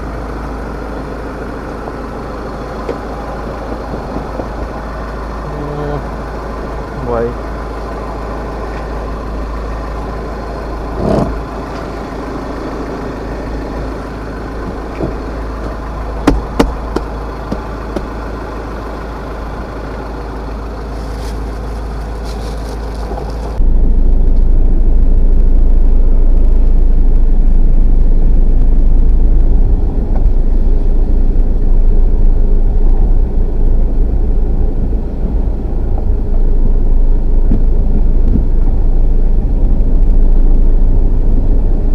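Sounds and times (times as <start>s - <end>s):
dump truck engine running: 0.0s - 41.9s
loud low rumble: 0.0s - 41.9s.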